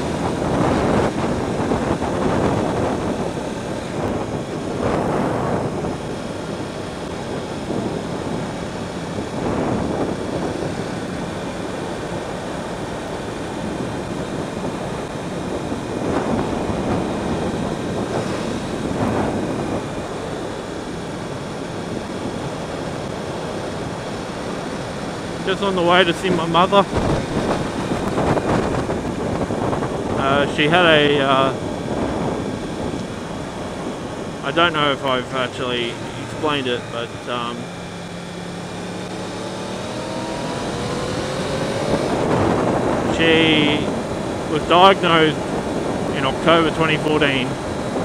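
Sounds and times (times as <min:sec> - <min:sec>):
motorcycle running: 0:00.0 - 0:48.0
wind roaring over microphone: 0:00.0 - 0:48.0.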